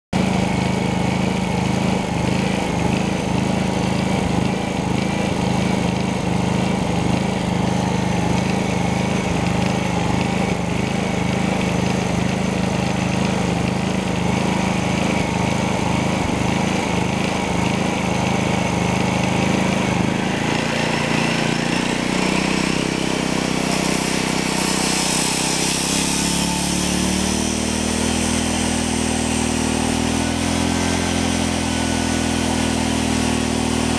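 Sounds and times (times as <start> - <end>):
angle grinder whine: 0.2 - 33.9
generator engine running: 0.2 - 33.9.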